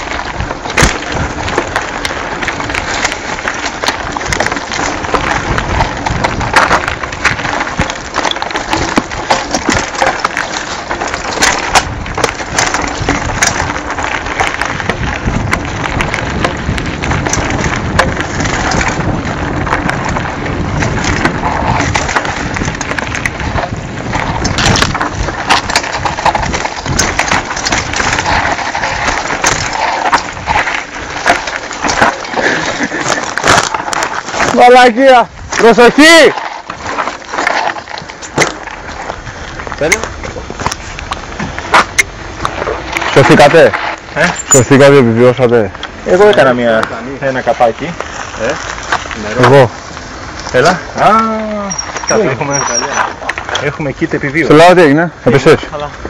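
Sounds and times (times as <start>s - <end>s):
bike rattling over bumps: 0.0s - 56.0s
tyres crunching on dirt: 0.0s - 56.0s.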